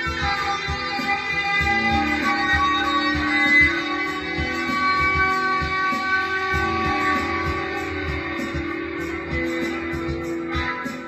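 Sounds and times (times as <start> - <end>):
drum machine beat: 0.0 - 11.0
effects-laden electric guitar: 0.0 - 11.0.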